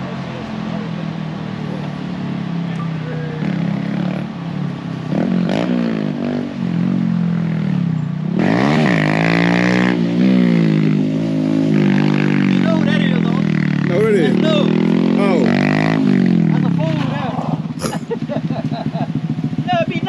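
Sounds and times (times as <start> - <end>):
motorcycle engine idling and revving: 0.0 - 20.0.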